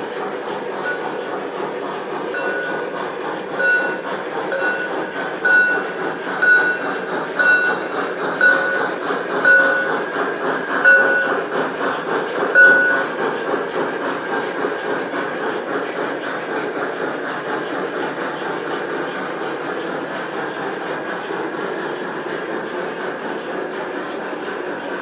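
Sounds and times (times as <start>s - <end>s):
model train rumbling on rails: 0.0s - 25.0s.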